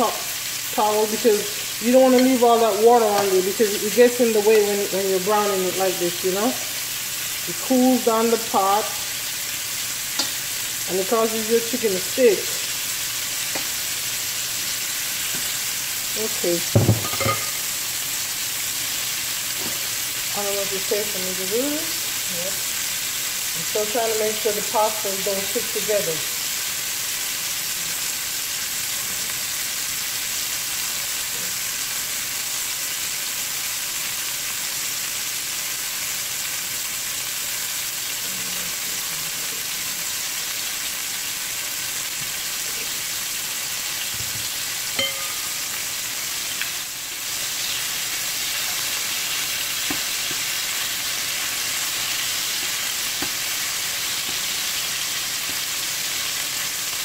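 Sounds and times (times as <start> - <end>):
chicken sizzling in a pan: 0.0 - 57.0.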